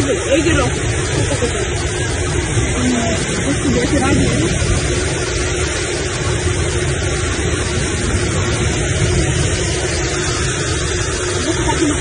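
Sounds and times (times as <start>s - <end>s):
flash flood rushing water: 0.0s - 12.0s
heavy rain: 0.0s - 12.0s.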